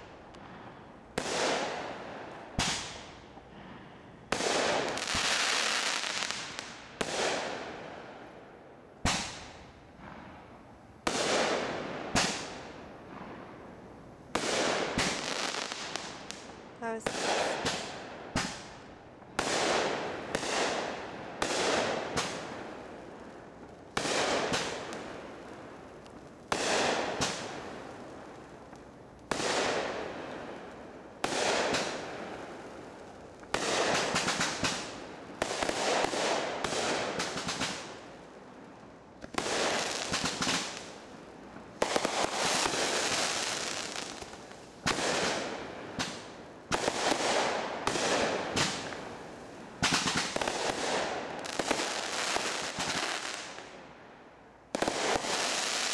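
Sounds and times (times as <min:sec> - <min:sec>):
fireworks bursting: 0:00.0 - 0:03.5, 0:04.2 - 0:08.1, 0:09.0 - 0:53.8, 0:54.7 - 0:55.9.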